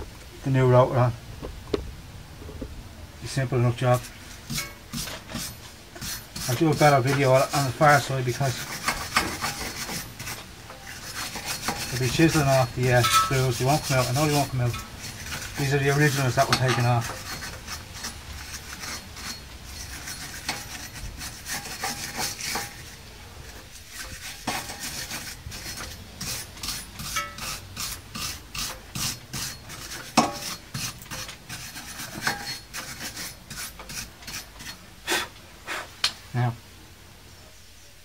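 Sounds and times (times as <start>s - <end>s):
wire brush scraping metal: 3.7s - 34.9s.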